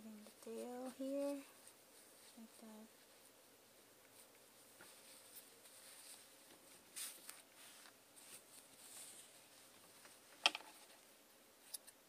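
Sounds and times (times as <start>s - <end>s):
yarn rustling: 0.0s - 11.2s.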